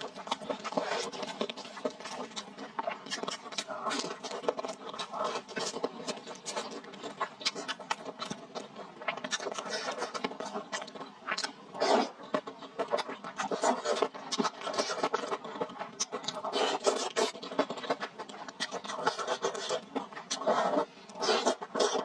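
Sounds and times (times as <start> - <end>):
slurping: 0.0 - 22.0
wet chewing: 0.0 - 22.0.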